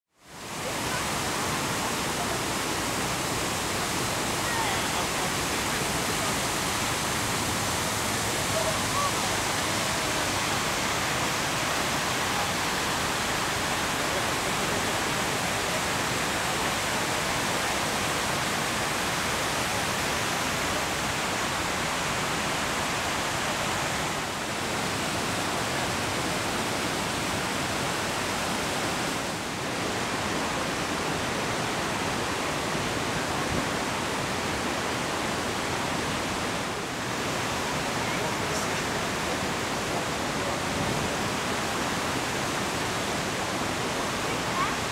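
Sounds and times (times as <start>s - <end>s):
waterfall rushing: 0.2s - 44.9s.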